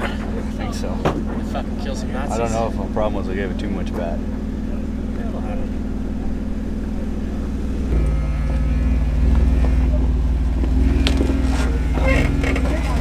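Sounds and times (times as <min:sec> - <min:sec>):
engine revving: 0:02.1 - 0:13.0.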